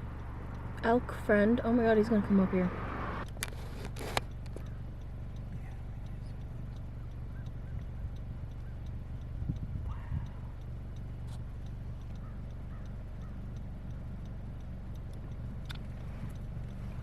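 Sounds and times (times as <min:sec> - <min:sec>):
faint regular ticking: 0:00.0 - 0:02.5, 0:03.2 - 0:17.0
car engine idling: 0:00.0 - 0:17.0.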